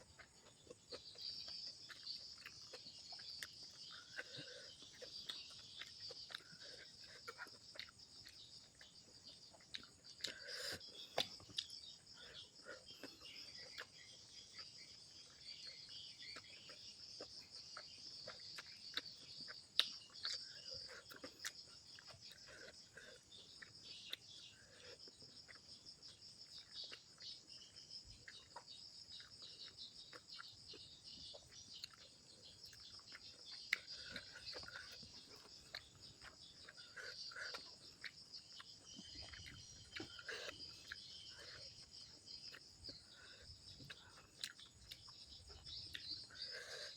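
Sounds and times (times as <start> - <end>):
faint chewing clicks: 0.0 - 46.9
insects chirring: 0.0 - 46.9.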